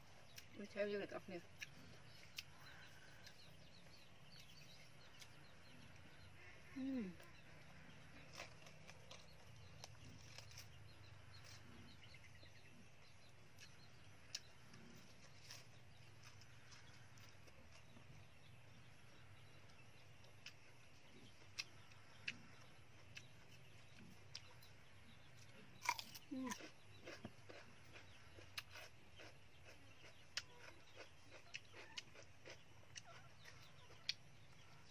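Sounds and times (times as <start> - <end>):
chewing raw vegetables: 1.4 - 34.9.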